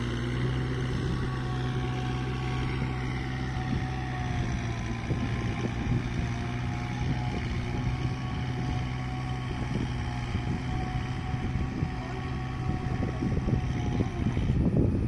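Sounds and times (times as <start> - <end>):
tractor diesel engine running: 0.0 - 15.0
wind rumble on microphone: 0.0 - 15.0.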